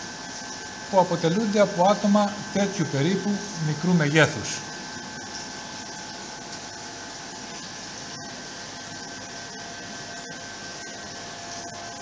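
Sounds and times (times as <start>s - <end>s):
air pump hum: 0.0s - 12.0s
aquarium filter whirring hiss: 0.0s - 12.0s.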